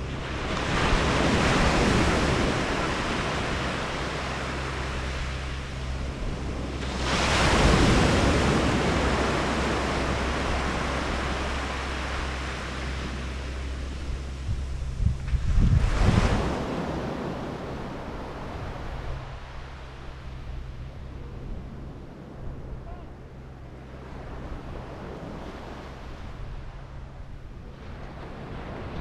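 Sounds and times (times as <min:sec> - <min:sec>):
waves breaking on beach: 0:00.0 - 0:29.0
wind rumble on microphone: 0:00.0 - 0:29.0.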